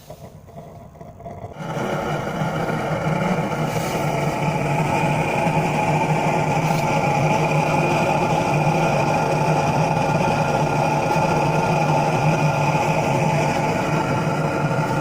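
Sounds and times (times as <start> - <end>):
furnace burning with hum and rush: 0.0 - 15.0.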